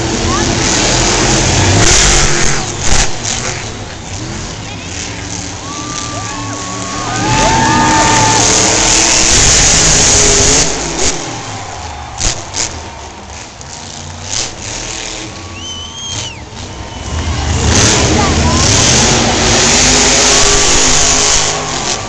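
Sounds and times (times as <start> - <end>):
truck engine revving loudly: 0.0 - 22.0.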